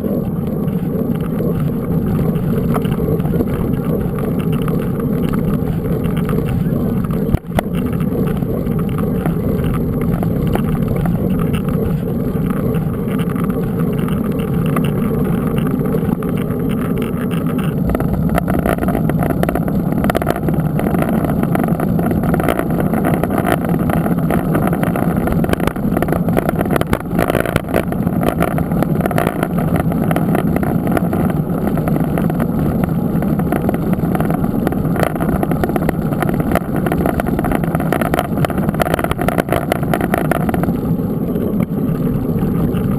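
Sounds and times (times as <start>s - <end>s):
bike tyres rolling: 0.0s - 42.9s
wind rush on microphone: 0.0s - 42.9s.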